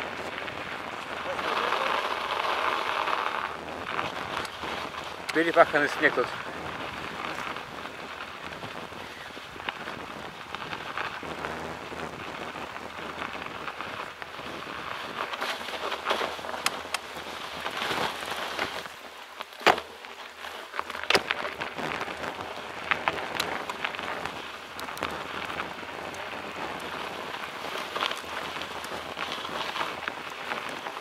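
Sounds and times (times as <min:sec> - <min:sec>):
bike tyres crunching over snow: 0:00.0 - 0:31.0
bikes knocking over bumps: 0:00.1 - 0:31.0.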